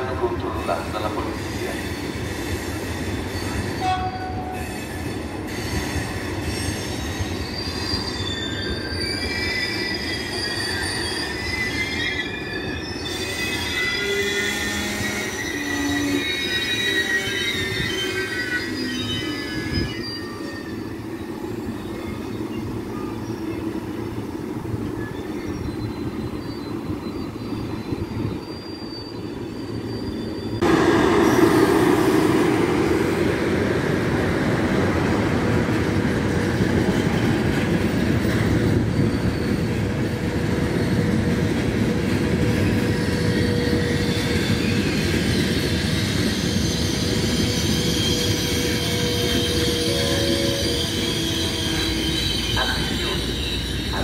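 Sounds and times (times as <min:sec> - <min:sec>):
train wheels rumbling on rails: 0:00.0 - 0:54.0
high wheel squeal: 0:00.2 - 0:31.7, 0:36.6 - 0:41.4, 0:42.3 - 0:54.0.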